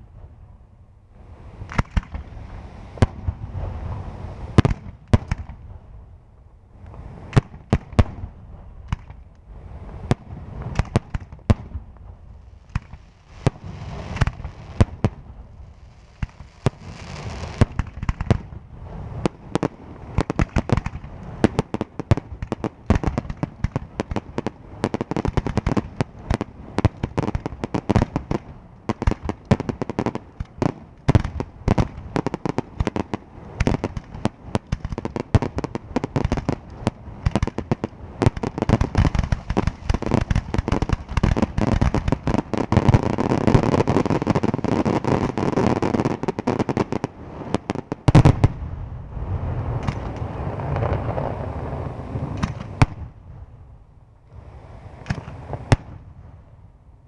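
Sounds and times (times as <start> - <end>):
fireworks bursting: 1.4 - 5.7, 6.8 - 53.5, 54.3 - 56.2.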